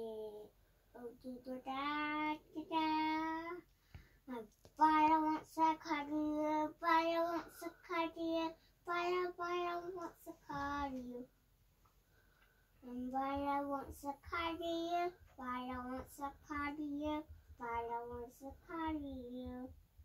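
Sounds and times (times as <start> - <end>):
child singing: 0.0 - 3.7, 4.3 - 11.3, 12.8 - 19.8.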